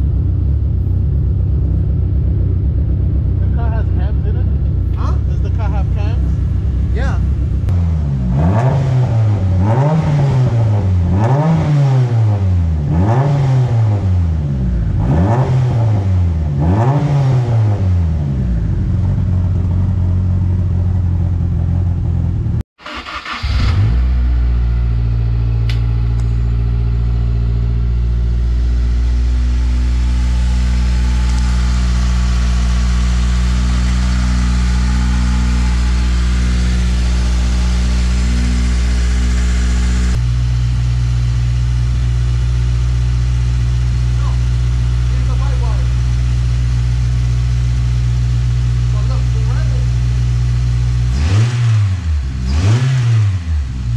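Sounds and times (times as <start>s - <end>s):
car engine idling: 0.0s - 11.2s, 13.9s - 16.6s, 17.9s - 51.2s
car engine revving: 0.0s - 53.9s.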